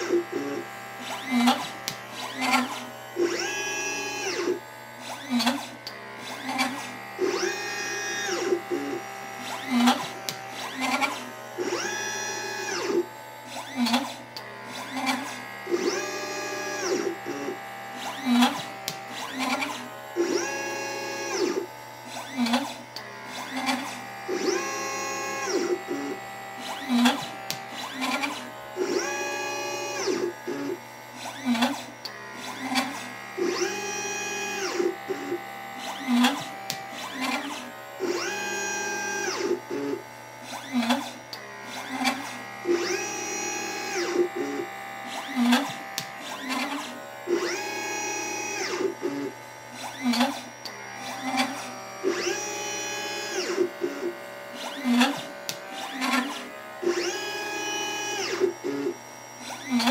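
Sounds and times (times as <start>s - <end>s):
stepper motors whining: 0.0s - 59.9s.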